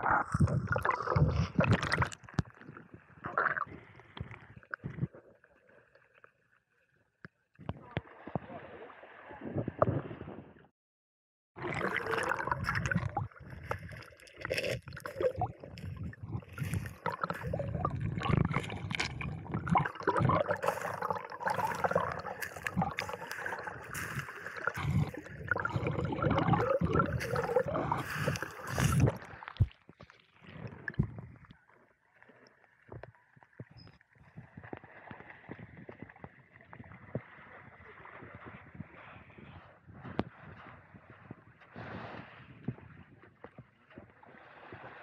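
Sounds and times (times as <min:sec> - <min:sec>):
sea water sloshing and gurgling: 0:00.0 - 0:07.0, 0:07.6 - 0:10.6, 0:11.6 - 0:45.0.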